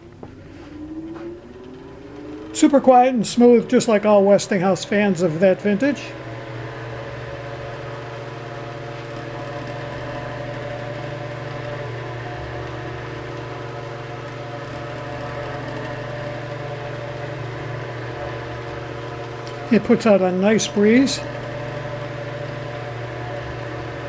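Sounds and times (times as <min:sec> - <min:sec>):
air rushing from fan blades: 0:00.0 - 0:24.0
table fan motor hum: 0:00.0 - 0:24.0.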